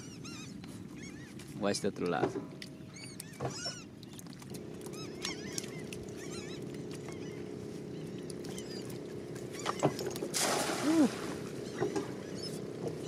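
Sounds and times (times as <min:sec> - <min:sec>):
birds chirping: 0:00.0 - 0:10.3, 0:11.4 - 0:13.0
steady engine hum: 0:00.0 - 0:13.0.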